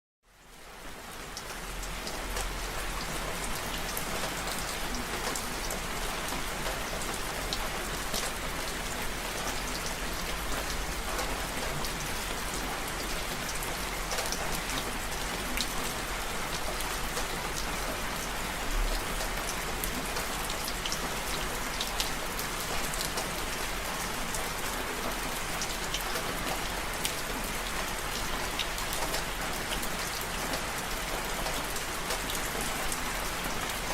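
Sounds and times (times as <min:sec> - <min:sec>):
rain falling: 0:00.3 - 0:33.9.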